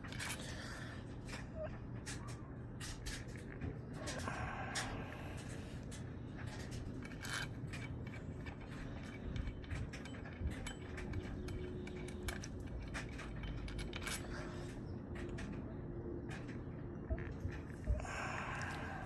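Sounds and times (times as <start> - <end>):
hand tools clicking on metal: 0.0 - 19.0
low steady hum: 0.0 - 19.0.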